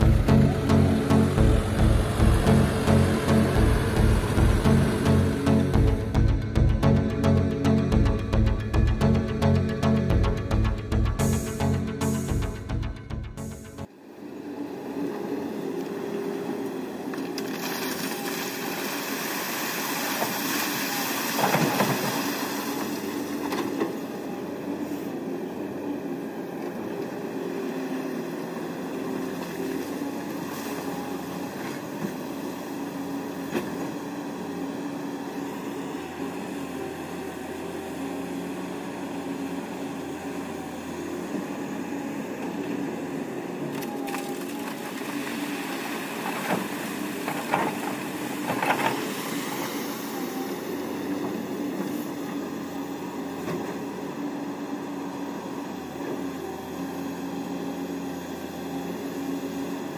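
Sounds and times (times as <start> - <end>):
excavator diesel engine running: 0.0 - 17.4, 22.6 - 59.9.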